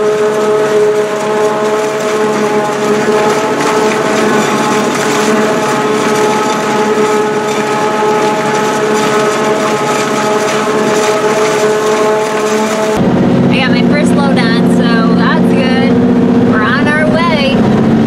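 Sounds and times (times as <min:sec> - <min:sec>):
harvester mechanical drone with whine: 0:00.0 - 0:18.0.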